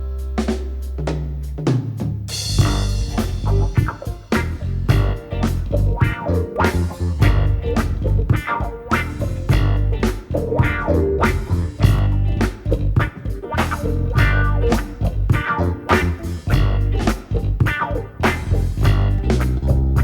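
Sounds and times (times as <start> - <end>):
bass guitar line: 0.0 - 1.7, 2.3 - 20.0
drums with steady beat: 0.0 - 20.0
electric guitars: 2.4 - 20.0.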